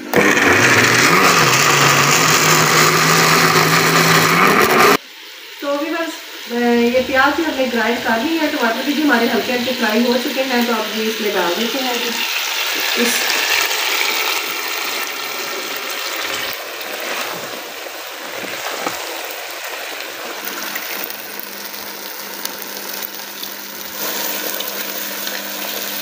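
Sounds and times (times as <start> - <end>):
tomatoes sizzling in oil: 0.0 - 26.0.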